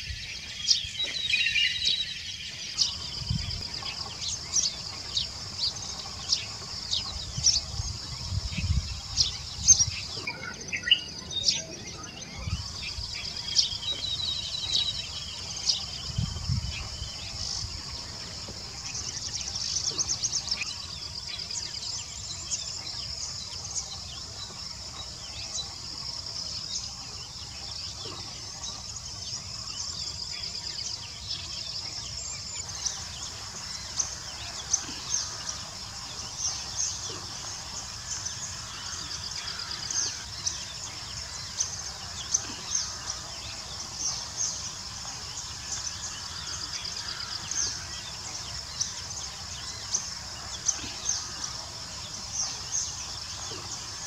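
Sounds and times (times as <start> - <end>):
birds chirping: 0.0 - 54.0
insect drone: 0.0 - 54.0.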